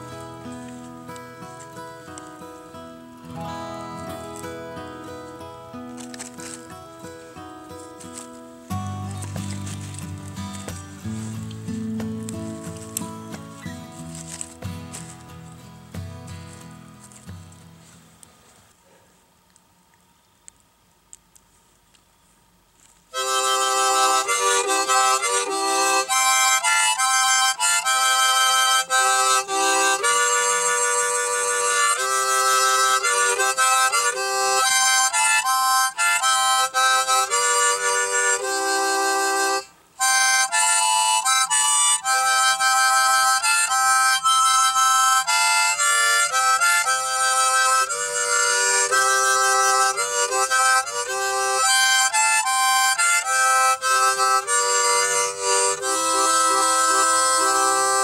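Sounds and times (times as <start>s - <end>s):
harmonica playing: 0.0s - 17.9s, 23.1s - 58.0s.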